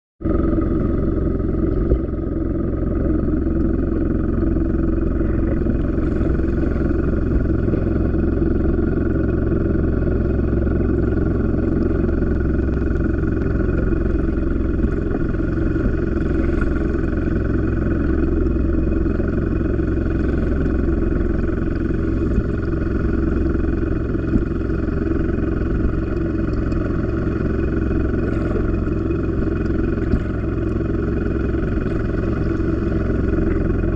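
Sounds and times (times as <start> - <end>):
engine running steadily: 0.2 - 33.9.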